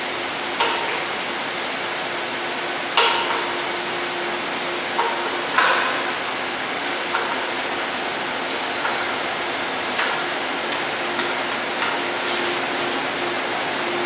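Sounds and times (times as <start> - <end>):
electric train hiss and hum: 0.0 - 14.0.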